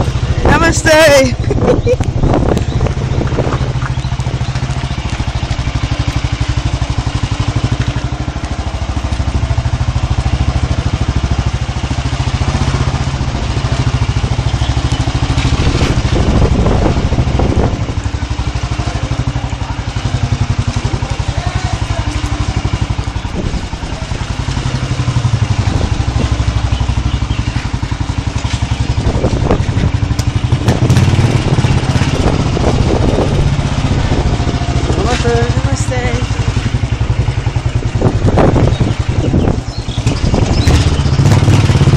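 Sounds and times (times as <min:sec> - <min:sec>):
motorcycle engine rumbling: 0:00.0 - 0:41.9.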